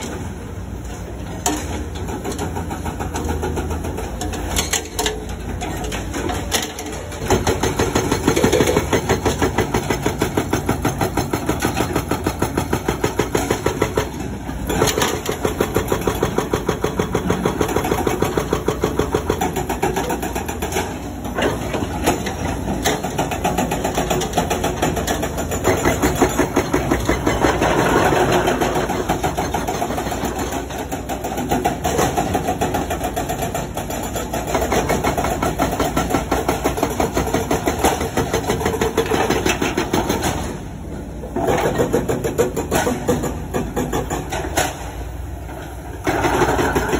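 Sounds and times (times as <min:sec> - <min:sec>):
hydraulic breaker hammering rock: 0:01.5 - 0:40.5, 0:41.3 - 0:46.9.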